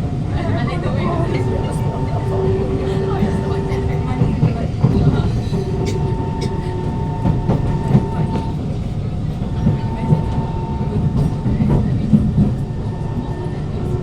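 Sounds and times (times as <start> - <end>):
train rumbling on track: 0.0 - 14.0
wheels clicking on rails: 1.3 - 14.0.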